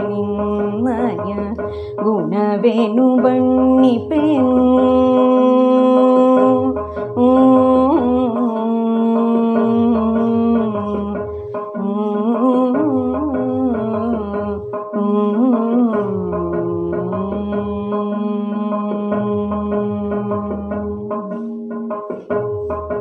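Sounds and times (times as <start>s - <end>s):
woman singing long notes: 0.0s - 22.3s
low rhythmic accompaniment: 0.0s - 23.0s.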